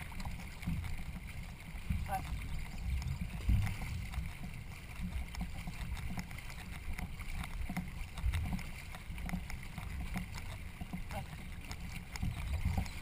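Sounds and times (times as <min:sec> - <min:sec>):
paddle splashing in water: 0:00.0 - 0:13.0.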